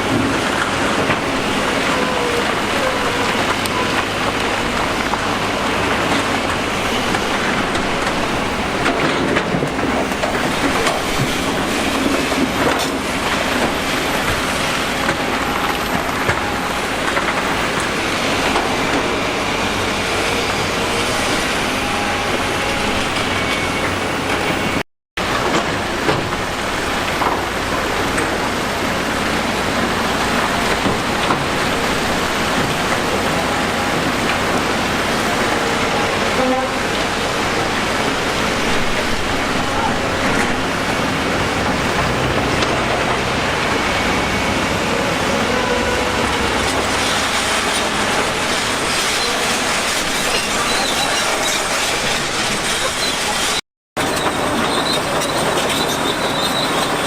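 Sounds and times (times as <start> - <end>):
heavy construction machinery rumbling: 0.0 - 57.0.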